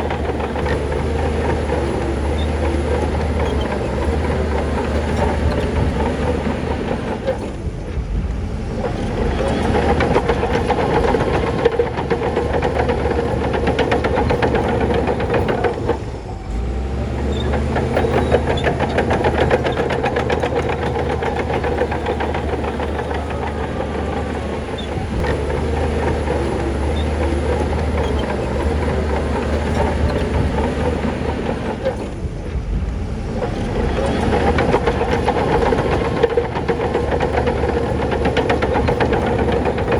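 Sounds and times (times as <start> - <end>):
diesel engine under load: 0.0 - 39.9
steel tracks clattering: 0.0 - 39.9.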